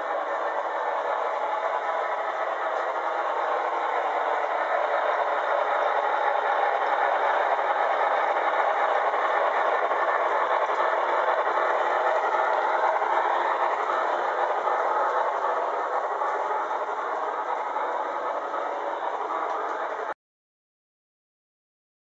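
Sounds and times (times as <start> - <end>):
model train whirring rattle: 0.0 - 20.1.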